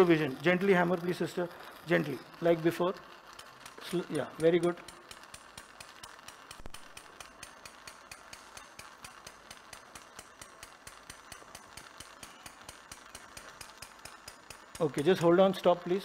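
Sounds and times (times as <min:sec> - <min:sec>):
faint fast ticking: 0:00.0 - 0:16.0.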